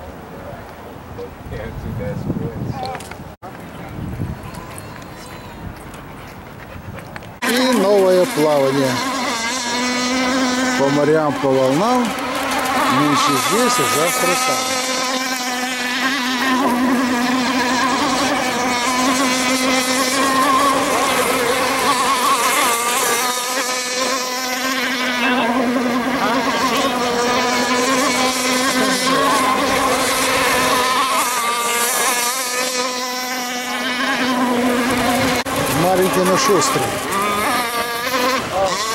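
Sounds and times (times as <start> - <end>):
model speedboat motor buzzing: 2.2 - 38.9.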